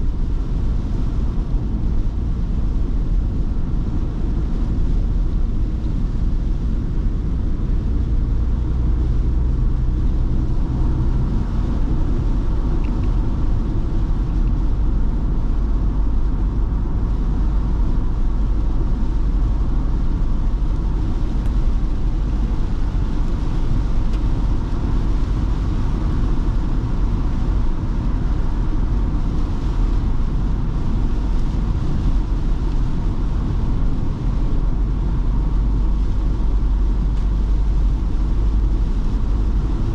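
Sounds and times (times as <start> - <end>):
van engine and tyres rumbling: 0.0 - 39.9
rain hissing: 0.5 - 39.9.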